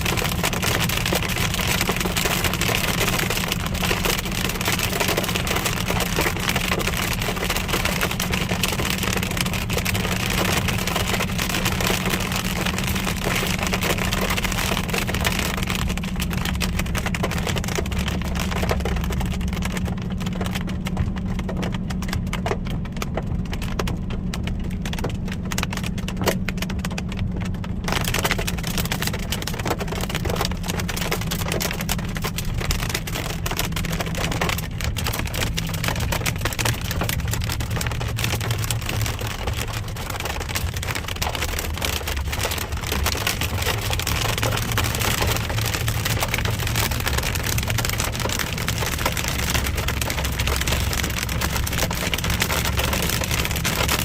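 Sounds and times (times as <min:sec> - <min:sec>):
car humming on the road: 0:00.0 - 0:54.0
hail and rain hitting car roof: 0:00.0 - 0:54.0.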